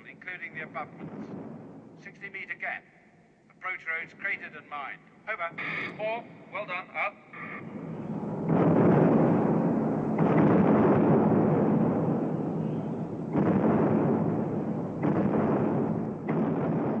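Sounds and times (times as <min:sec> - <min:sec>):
heavy explosions rumbling: 0:00.0 - 0:02.4, 0:05.4 - 0:17.0.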